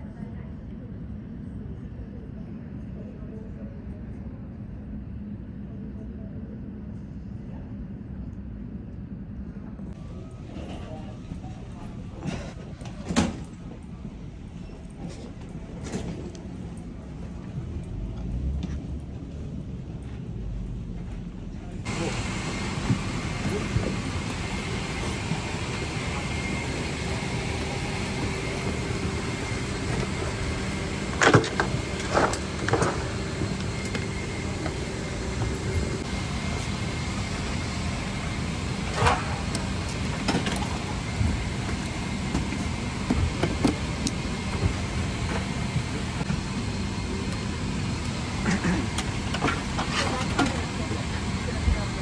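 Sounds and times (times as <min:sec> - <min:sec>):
airliner cabin hum: 0:00.0 - 0:52.0.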